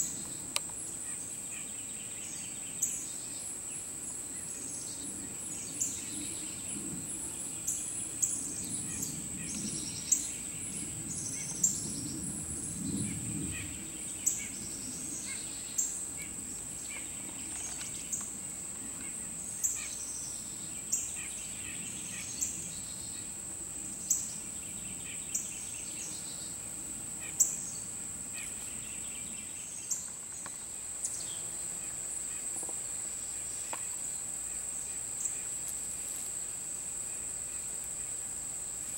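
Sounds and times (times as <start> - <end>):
insect chirps: 0.0 - 38.9.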